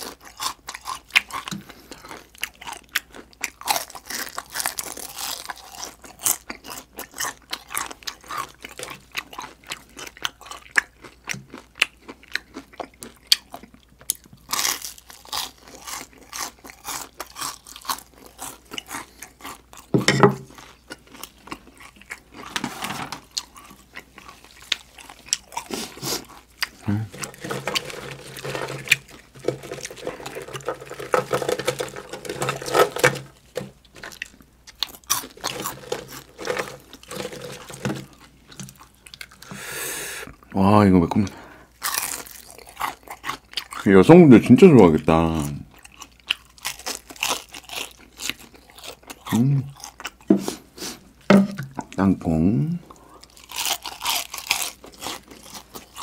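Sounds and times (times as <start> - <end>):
crunchy chewing: 0.0 - 40.6, 41.7 - 44.2, 45.4 - 52.0, 52.9 - 56.0.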